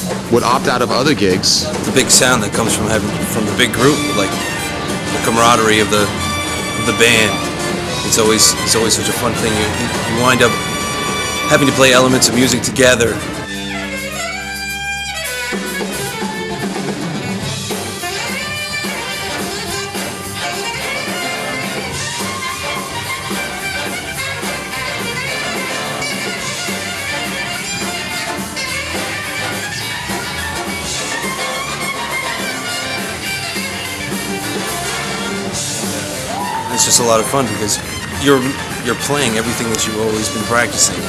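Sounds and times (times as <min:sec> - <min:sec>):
big band jazz: 0:00.0 - 0:41.0.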